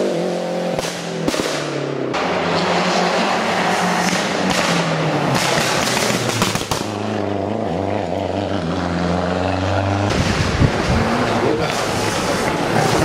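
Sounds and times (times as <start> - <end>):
rally car engine droning: 0.0 - 13.0.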